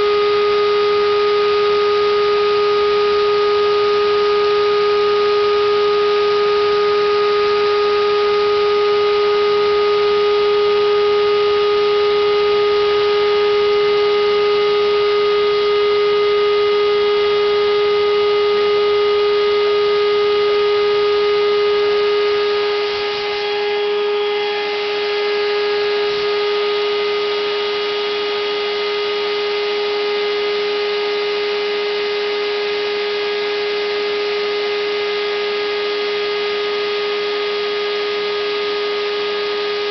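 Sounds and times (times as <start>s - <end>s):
cnc router whine: 0.0s - 39.9s.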